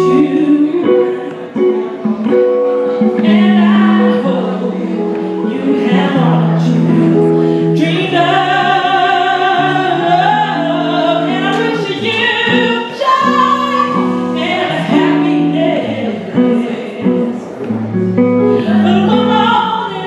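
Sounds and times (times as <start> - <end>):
person singing long notes: 0.0 - 20.0.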